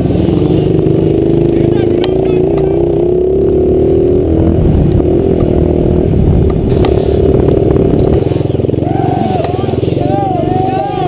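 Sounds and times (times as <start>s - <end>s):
dirt bike engine at high revs: 0.0s - 11.0s.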